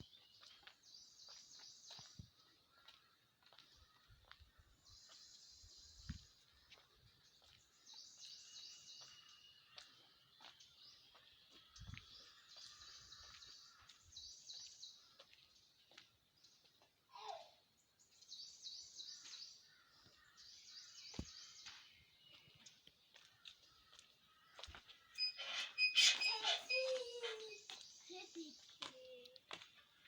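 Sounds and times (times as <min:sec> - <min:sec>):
faint birds chirping: 0:00.0 - 0:30.0.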